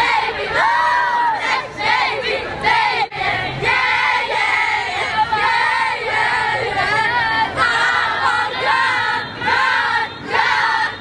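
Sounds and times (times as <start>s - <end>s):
crowd of girls singing: 0.0s - 11.0s.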